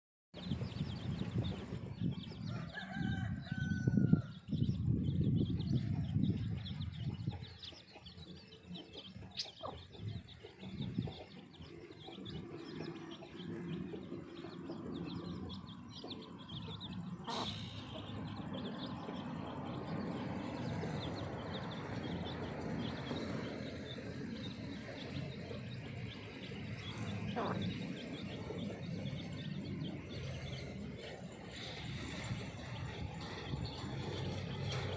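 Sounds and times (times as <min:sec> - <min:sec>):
baby chicks peeping: 0:00.4 - 0:34.9.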